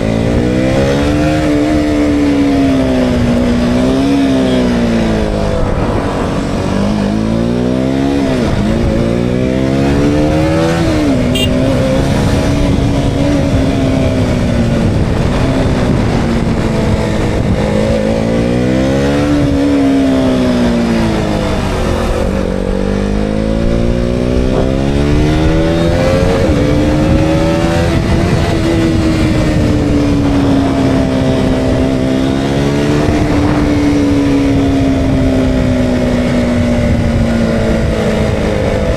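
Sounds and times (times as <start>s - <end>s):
motorcycle engine revving: 0.0s - 38.9s
wind rush on microphone: 0.0s - 38.9s.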